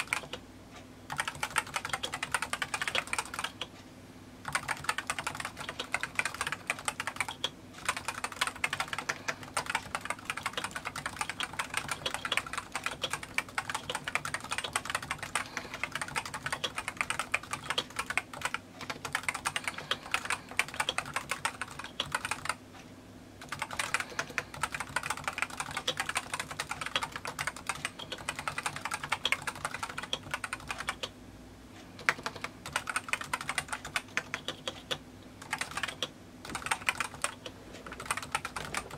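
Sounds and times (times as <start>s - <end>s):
fast keyboard typing: 0.0s - 0.4s, 1.1s - 3.7s, 4.4s - 22.6s, 23.4s - 31.1s, 32.0s - 38.9s.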